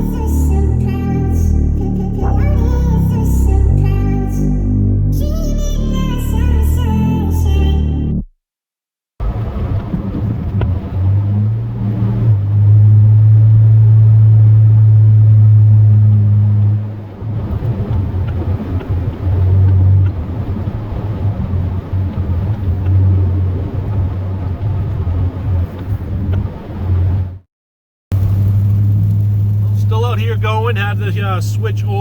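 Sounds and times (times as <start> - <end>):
truck engine droning: 0.0 - 7.9, 9.2 - 25.5, 28.1 - 32.0.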